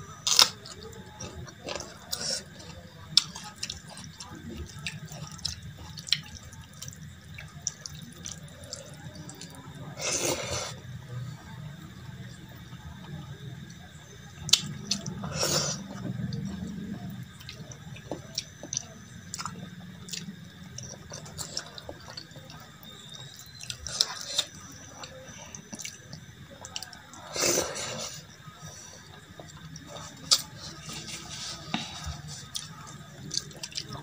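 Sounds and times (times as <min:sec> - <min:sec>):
chewing: 0:00.1 - 0:10.9, 0:14.4 - 0:34.0.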